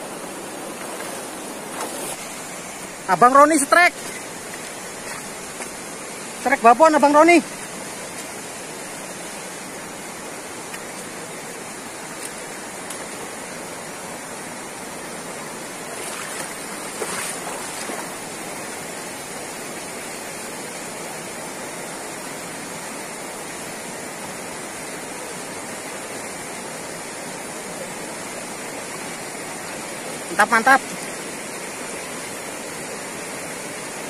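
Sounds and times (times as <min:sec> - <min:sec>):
river rushing over rocks: 0:00.0 - 0:34.0.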